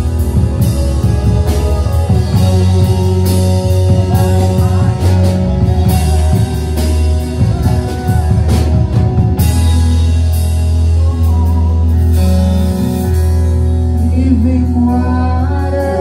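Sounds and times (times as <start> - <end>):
drum kit steady beat: 0.0 - 16.0
electric guitar: 0.0 - 16.0
worship band playing slow song: 0.0 - 16.0.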